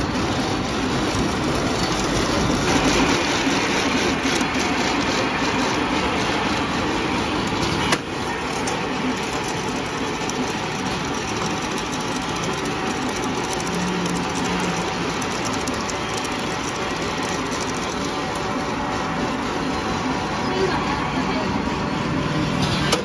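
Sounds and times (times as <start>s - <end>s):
packing machine whirring: 0.0s - 23.0s.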